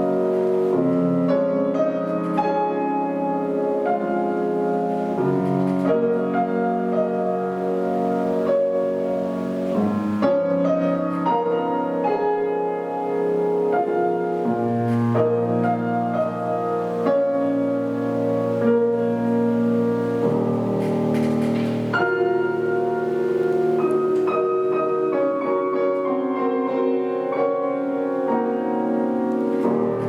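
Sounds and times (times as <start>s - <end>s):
slow solo piano piece: 0.0s - 30.0s.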